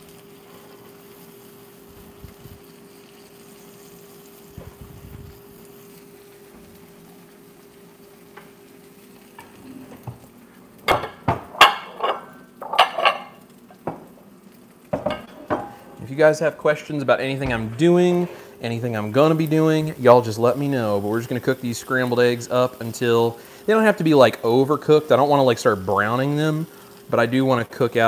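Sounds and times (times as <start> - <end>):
eggs sizzling in a skillet: 0.0 - 28.0.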